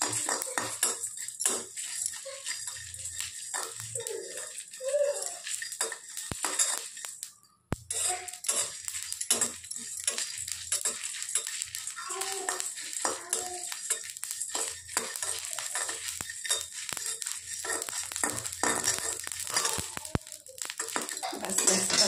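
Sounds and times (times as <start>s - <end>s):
seeds rattling in a pan: 0.0s - 22.0s
spatula scraping metal pan: 0.0s - 22.0s.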